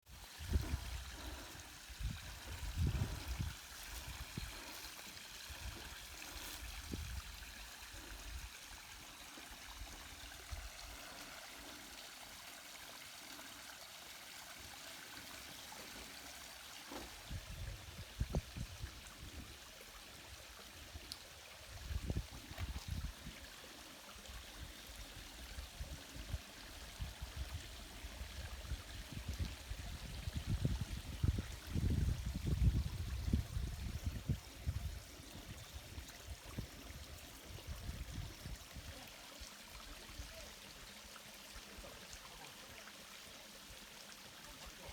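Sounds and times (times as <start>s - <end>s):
stream running over rocks: 0.0s - 44.9s.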